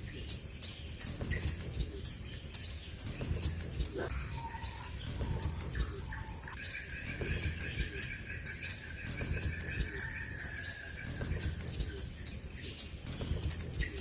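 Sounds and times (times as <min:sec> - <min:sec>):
bird high-pitched chirps: 0:00.0 - 0:14.0.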